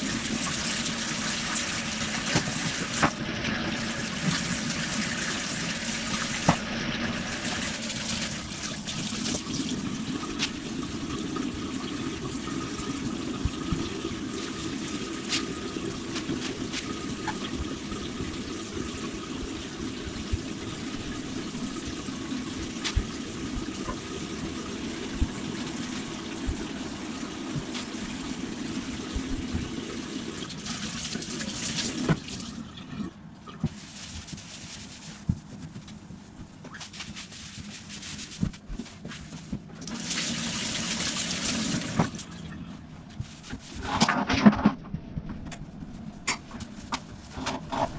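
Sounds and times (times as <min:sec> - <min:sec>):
water running: 0:00.0 - 0:43.9.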